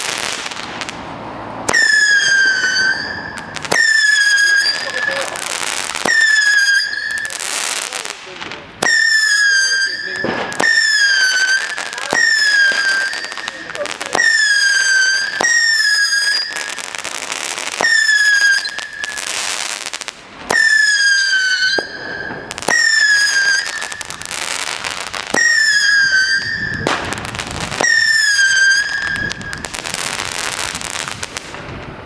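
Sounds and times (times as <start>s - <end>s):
firework hissing: 0.0s - 32.0s
shrill firework whistles: 1.7s - 7.5s, 8.8s - 19.9s, 20.5s - 31.4s
firework pops: 1.7s - 32.0s.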